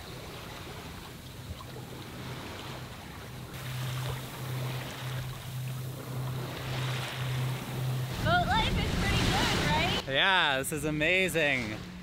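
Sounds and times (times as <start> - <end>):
wind buffeting microphone: 0.0 - 10.0
water rushing past hull: 0.0 - 12.0
low hum: 0.4 - 12.0.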